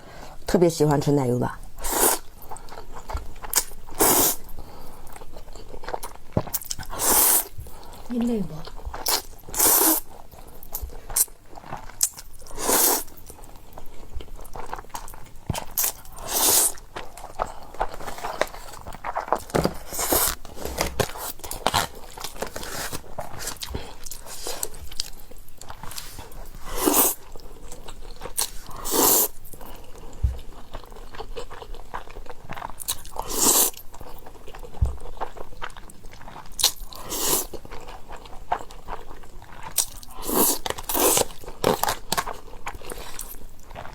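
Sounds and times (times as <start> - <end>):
person chewing food: 1.6 - 43.9.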